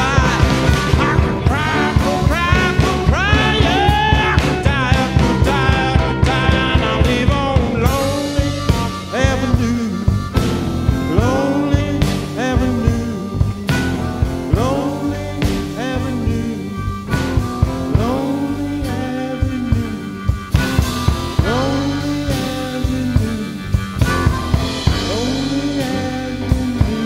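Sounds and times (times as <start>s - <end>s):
bass guitar: 0.0s - 27.0s
lead guitar bending notes: 0.0s - 27.0s
steady drum beat: 0.0s - 27.0s.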